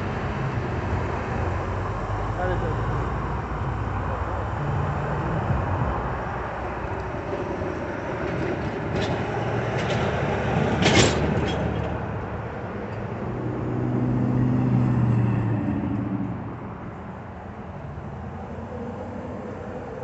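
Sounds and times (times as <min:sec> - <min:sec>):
cars passing: 0:00.0 - 0:20.0
truck passing close: 0:00.0 - 0:20.0.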